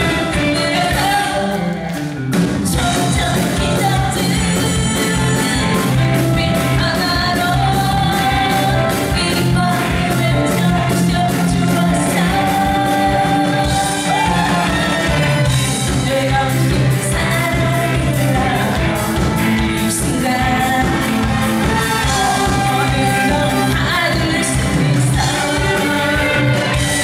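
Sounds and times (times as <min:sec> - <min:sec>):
band accompaniment: 0:00.0 - 0:27.0
drums keeping steady beat: 0:00.0 - 0:27.0
woman singing into microphone: 0:02.7 - 0:15.0, 0:15.7 - 0:27.0.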